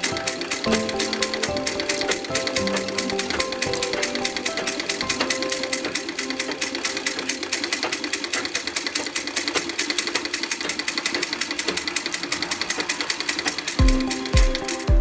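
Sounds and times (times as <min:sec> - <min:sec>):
sewing machine clattering: 0:00.0 - 0:13.8.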